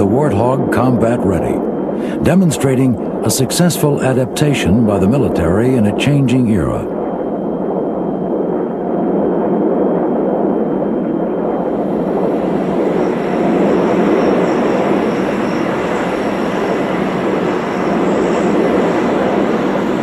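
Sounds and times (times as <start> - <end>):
high jet whine: 0.0 - 20.0
jet engine rush: 0.0 - 20.0.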